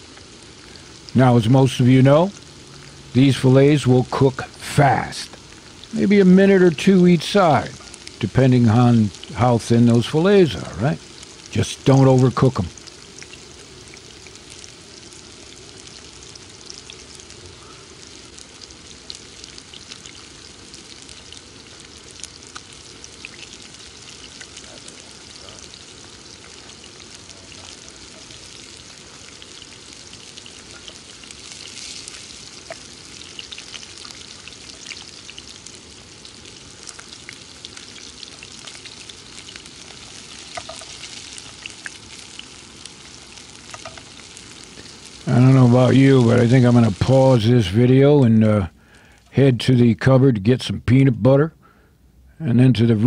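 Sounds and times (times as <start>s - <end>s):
fish frying in oil: 0.0s - 49.3s
oil crackles: 0.0s - 49.4s.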